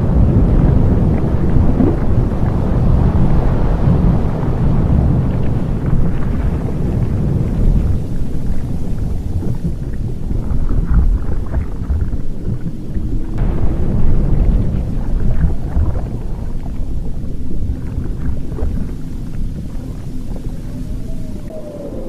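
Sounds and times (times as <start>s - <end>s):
crackling and popping: 0.0s - 3.1s, 5.3s - 21.6s
deep volcanic rumble: 0.0s - 22.0s.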